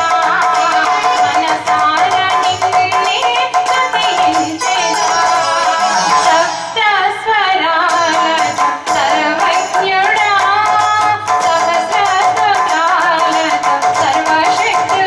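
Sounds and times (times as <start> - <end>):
instrumental accompaniment: 0.0 - 15.0
steady percussion beat: 0.0 - 15.0
woman singing into a microphone: 0.0 - 15.0.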